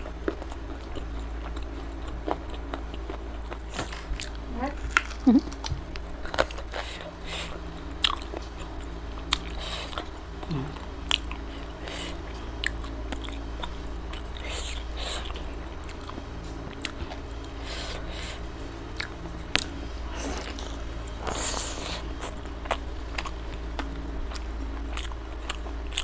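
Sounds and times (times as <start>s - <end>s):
low steady hum: 0.0s - 26.0s
person chewing and smacking: 0.0s - 26.0s.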